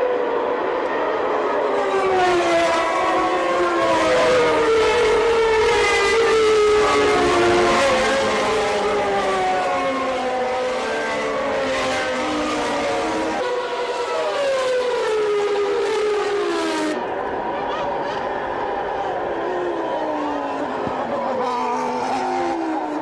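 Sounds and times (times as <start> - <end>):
race car engines at high revs: 0.2 - 23.0.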